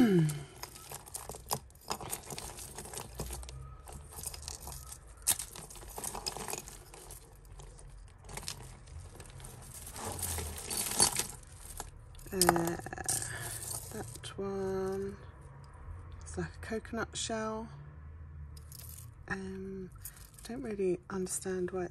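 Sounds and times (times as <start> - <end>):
jewellery chains and beads clinking: 0.0 - 15.2, 18.5 - 21.7.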